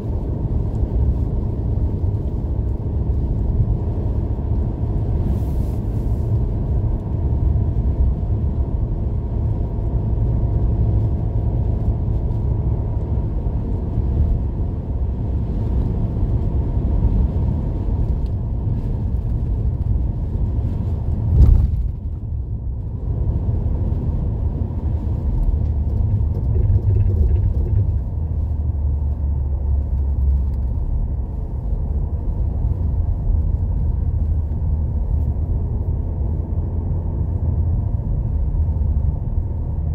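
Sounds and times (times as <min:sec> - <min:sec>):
tyres and engine rumble: 0:00.0 - 0:39.9.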